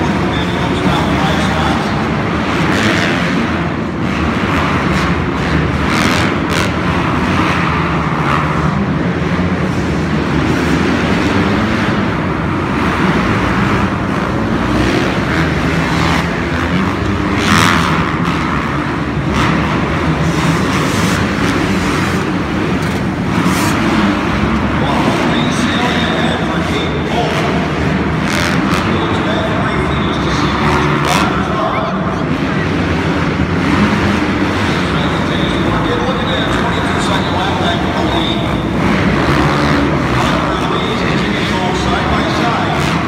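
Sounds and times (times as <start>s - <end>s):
dirt bike engines running: 0.0s - 43.0s.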